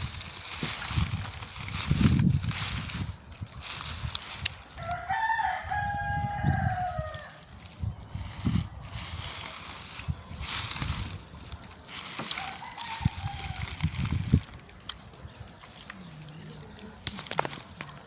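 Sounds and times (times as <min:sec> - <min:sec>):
chickens calling: 0:00.0 - 0:18.0
rustling noise: 0:00.0 - 0:18.0.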